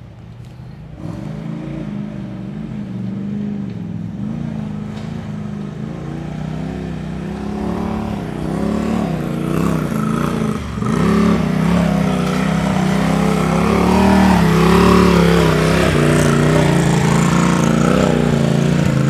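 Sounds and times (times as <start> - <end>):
utv engine revving: 1.0 - 19.0.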